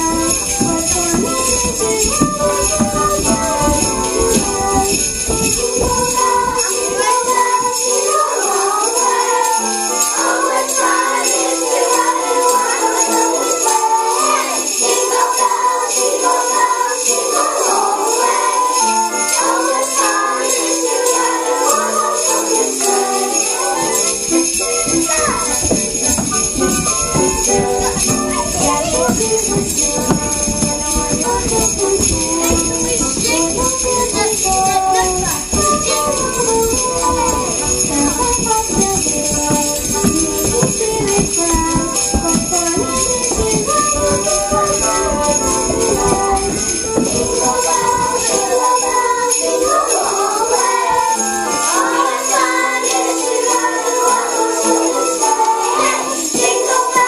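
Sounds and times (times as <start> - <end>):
sleigh bells jingling: 0.0 - 57.0.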